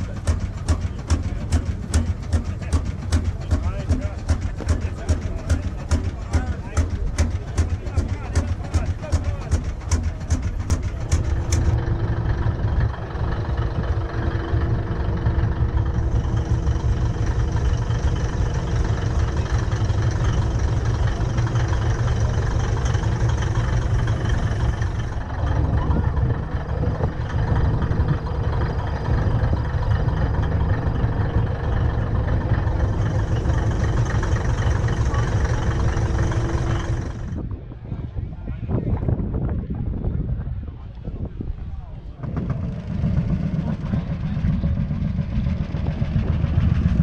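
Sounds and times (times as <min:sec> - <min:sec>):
tractor engines idling: 0:00.0 - 0:39.1, 0:39.9 - 0:47.0.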